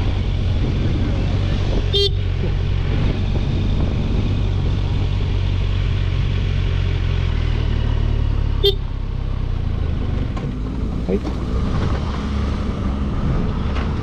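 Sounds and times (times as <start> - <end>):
motorcycle engine running: 0.0 - 13.5
road and wind noise: 0.0 - 14.0.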